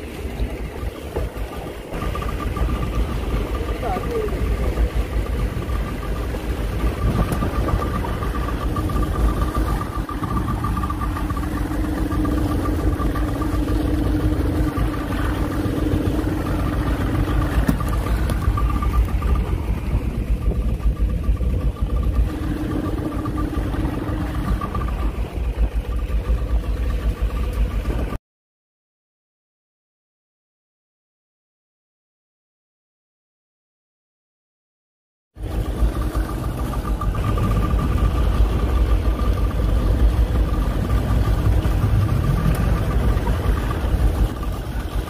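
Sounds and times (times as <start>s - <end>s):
boat hull noise on water: 0.0s - 28.2s, 35.3s - 45.0s
outboard motor running: 0.0s - 28.2s, 35.4s - 45.0s.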